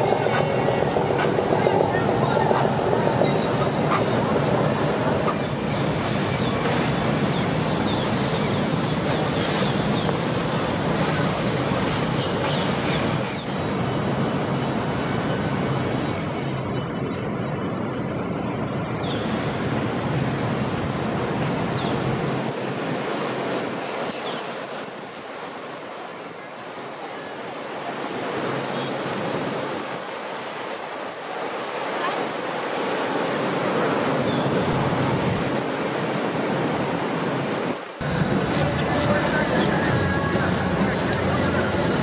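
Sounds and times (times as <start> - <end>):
wind on microphone: 0.0 - 25.2, 32.0 - 42.0
motorboat engine rumble: 0.0 - 42.0
water rushing: 0.0 - 42.0.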